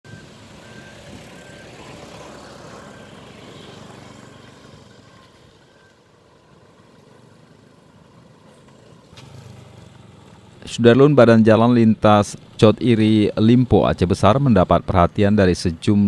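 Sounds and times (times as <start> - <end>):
dump truck driving away: 0.0 - 15.3
motorbikes driving away: 0.1 - 16.0.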